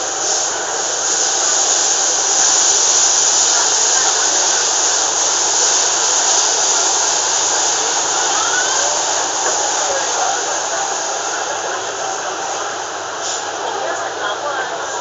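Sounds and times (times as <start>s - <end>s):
train wheels on rails rushing: 0.0s - 15.0s.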